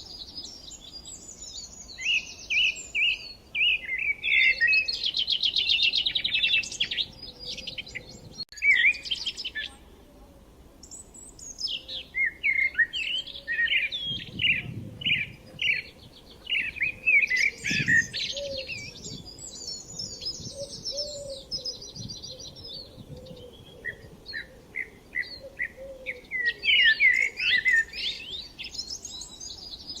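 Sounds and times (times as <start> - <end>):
small birds chirping: 0.0 - 10.2, 10.8 - 30.0.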